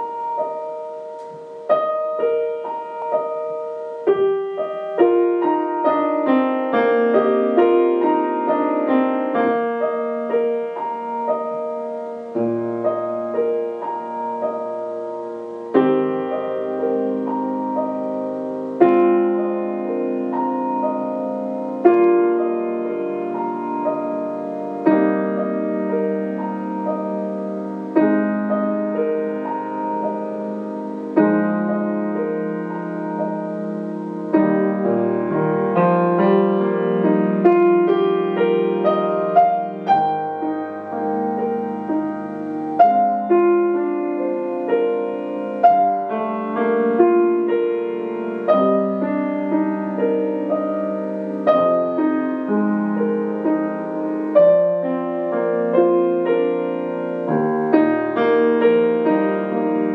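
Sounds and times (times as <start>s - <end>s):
slow solo piano piece: 0.0s - 59.9s.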